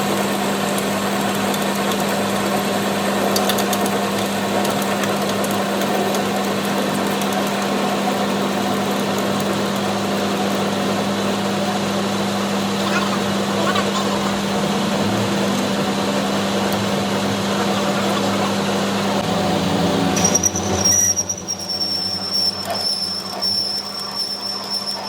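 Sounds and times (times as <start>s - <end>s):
engine humming: 1.0s - 24.0s.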